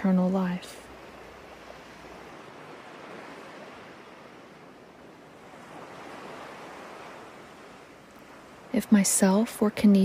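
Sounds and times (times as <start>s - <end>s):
ocean surf: 0.0s - 10.0s.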